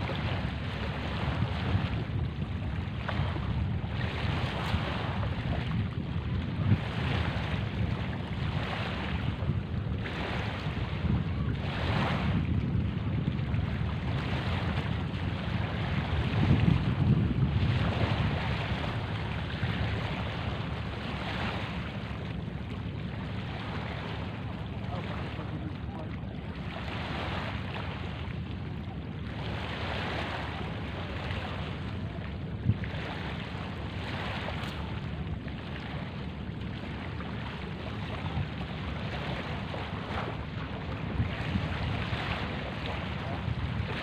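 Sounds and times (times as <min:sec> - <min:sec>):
small waves washing on shore: 0:00.0 - 0:44.0
wind buffeting microphone: 0:00.0 - 0:44.0.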